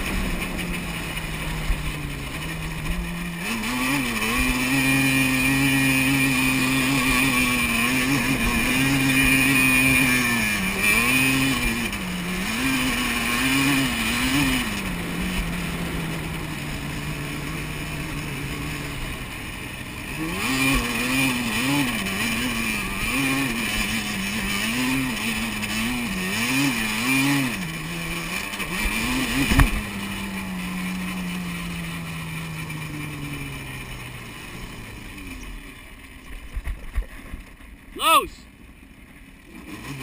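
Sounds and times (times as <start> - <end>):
quad bike engine revving: 0.0 - 38.2, 38.8 - 40.0.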